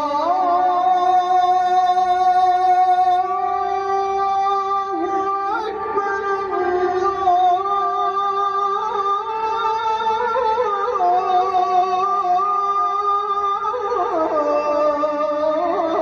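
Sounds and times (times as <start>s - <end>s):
man chanting a prayer: 0.0s - 16.0s.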